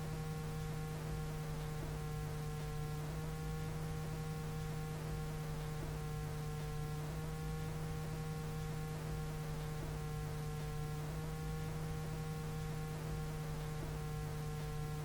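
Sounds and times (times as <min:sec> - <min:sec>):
low electrical hum: 0:00.0 - 0:15.0
faint soft ticks: 0:00.1 - 0:15.0.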